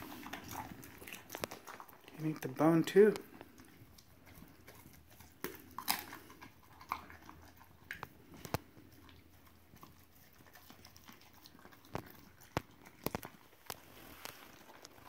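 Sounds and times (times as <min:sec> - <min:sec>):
dog crunching bones: 0:00.0 - 0:15.0.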